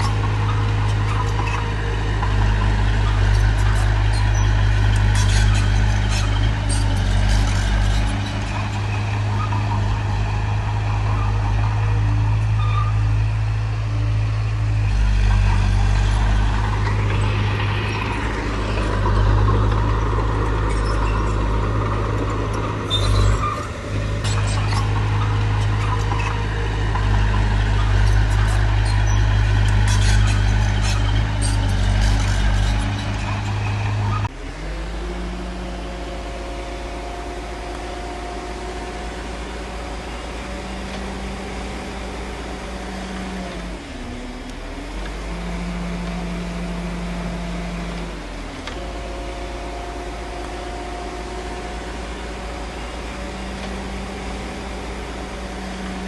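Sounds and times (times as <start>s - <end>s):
diesel machinery engine drone: 0.0s - 56.0s.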